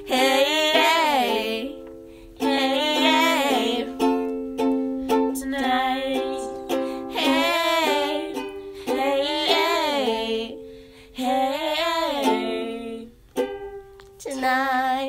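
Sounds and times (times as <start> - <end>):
person singing: 0.0 - 1.8, 2.4 - 15.0
ukulele strumming: 0.0 - 15.0.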